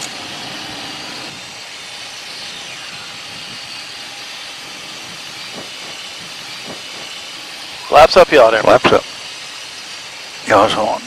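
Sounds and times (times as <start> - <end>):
jet engines and airflow rushing: 0.0 - 11.0.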